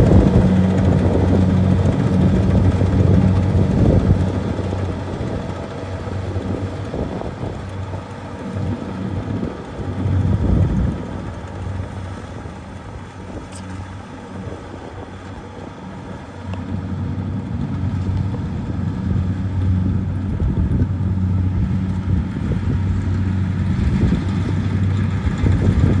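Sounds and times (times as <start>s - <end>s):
combine harvester engine humming: 0.0s - 26.0s.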